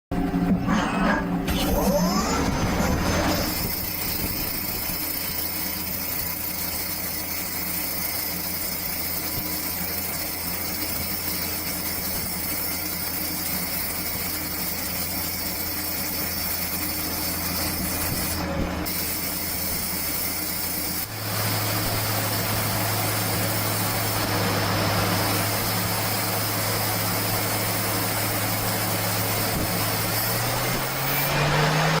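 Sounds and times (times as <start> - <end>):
machine hum over hiss: 0.2 - 32.0.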